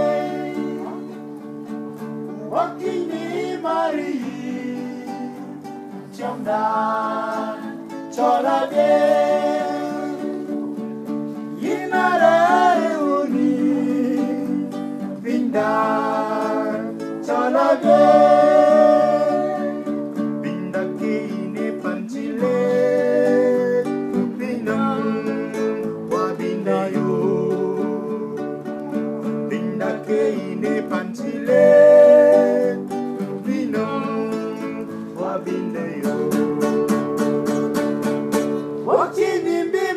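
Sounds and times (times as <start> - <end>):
man singing: 0.0 - 1.2, 2.4 - 10.7, 11.6 - 37.7, 38.8 - 39.9
acoustic guitar: 0.0 - 39.9.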